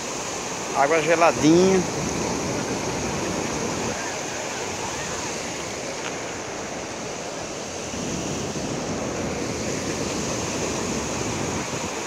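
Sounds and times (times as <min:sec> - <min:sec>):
river rapids and waterfall rushing: 0:00.0 - 0:12.0
wind buffeting microphone: 0:00.0 - 0:12.0.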